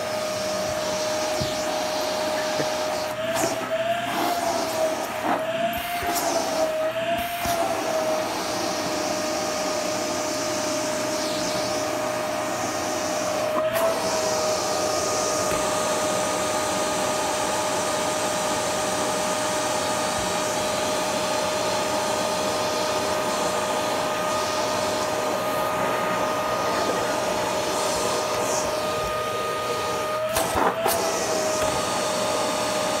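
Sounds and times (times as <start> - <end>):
suction hissing through hose: 0.0 - 18.3, 22.1 - 33.0
vacuum cleaner whining: 0.0 - 33.0.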